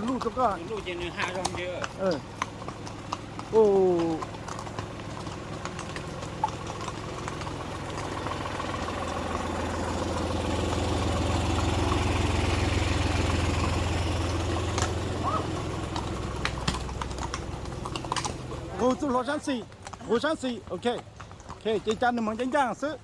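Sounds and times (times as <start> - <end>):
vehicle engine passing: 0.0 - 22.9.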